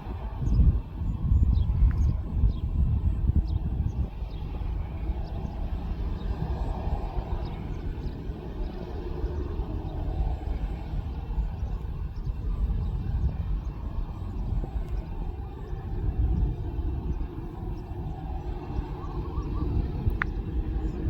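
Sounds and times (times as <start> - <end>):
distant jet engines rumbling: 0.0 - 21.0.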